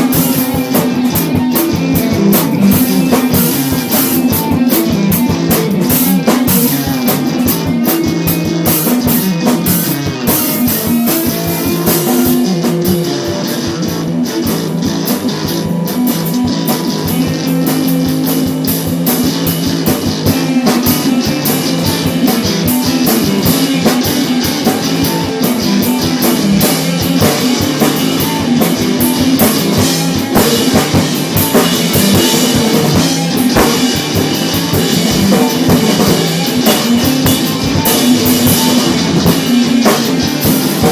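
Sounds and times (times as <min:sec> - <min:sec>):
drum kit: 0:00.0 - 0:40.9
guitar: 0:00.0 - 0:40.9
rock band playing: 0:00.0 - 0:40.9.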